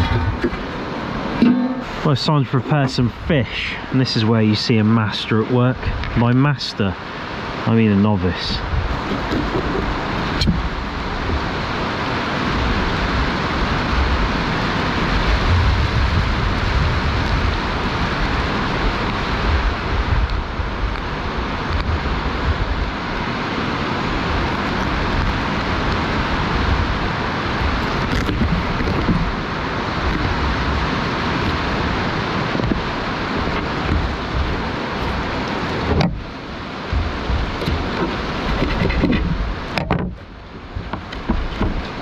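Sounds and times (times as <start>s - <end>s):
wind on microphone: 0.0s - 6.4s, 8.2s - 42.0s.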